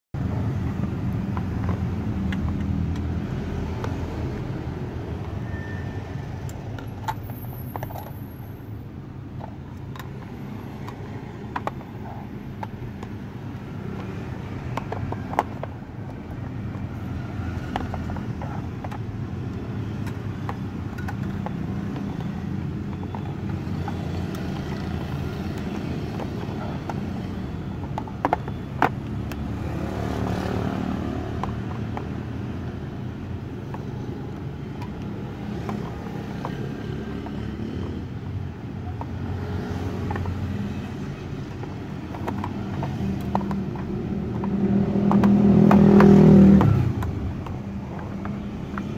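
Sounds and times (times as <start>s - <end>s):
plastic cases clicking: 0.2s - 5.4s, 6.4s - 48.9s.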